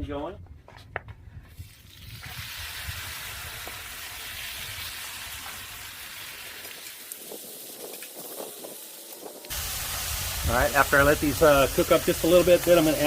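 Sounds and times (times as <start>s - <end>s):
chicken sizzling on a griddle: 2.2s - 13.0s.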